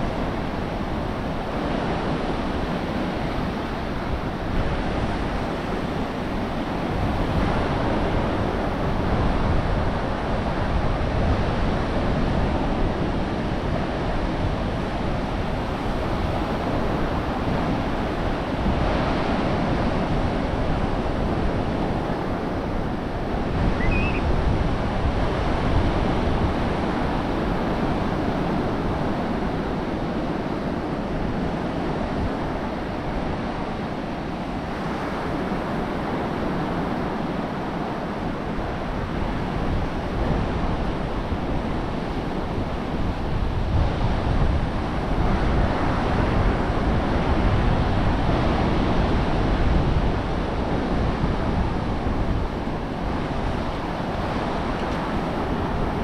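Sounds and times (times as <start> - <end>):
ocean surf washing on beach: 0.0 - 56.0
wind buffeting microphone: 0.0 - 56.0.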